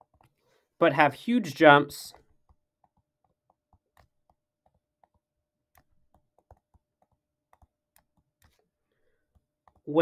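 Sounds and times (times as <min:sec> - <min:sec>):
stylus tapping tablet screen: 0:00.0 - 0:00.4, 0:02.1 - 0:09.9.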